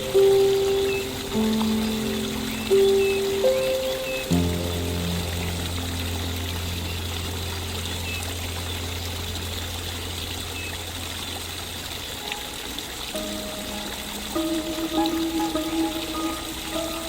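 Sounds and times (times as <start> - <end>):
soft background music: 0.0 - 17.0
water trickling and pouring: 0.0 - 17.0.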